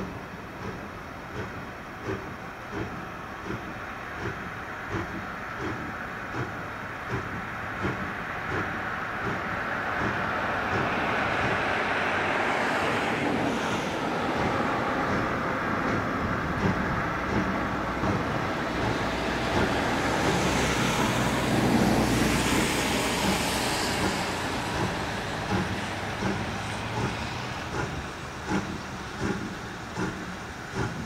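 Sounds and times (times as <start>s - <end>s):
locomotive rumble and hiss: 0.0s - 31.0s.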